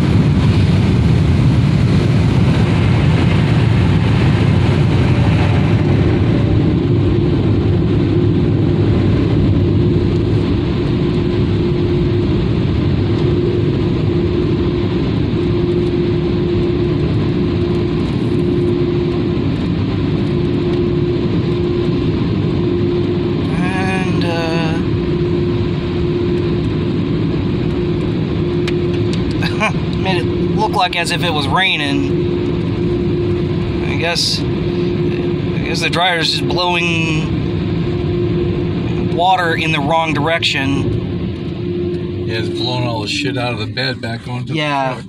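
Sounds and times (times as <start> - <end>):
dryer blowers rushing air: 0.0 - 45.0
steady on-and-off tone: 5.9 - 45.0.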